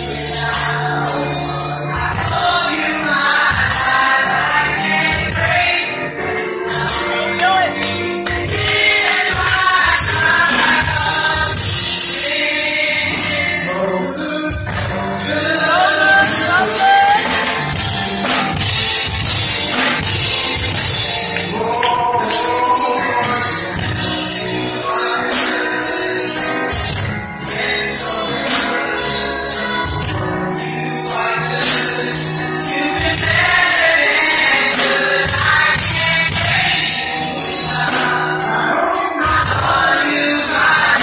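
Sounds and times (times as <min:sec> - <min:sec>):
drum kit: 0:00.0 - 0:41.0
keyboard: 0:00.0 - 0:41.0
vocal group singing gospel: 0:00.0 - 0:41.0.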